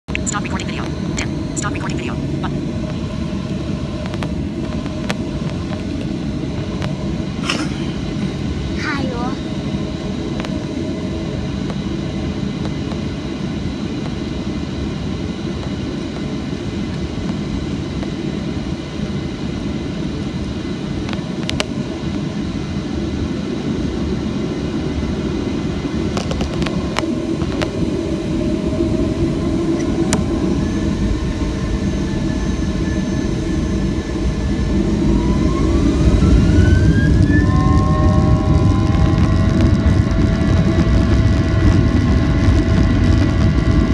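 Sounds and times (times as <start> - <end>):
rising whines: 0.1 - 20.8, 21.8 - 43.9
jet engines spooling up: 0.1 - 43.9.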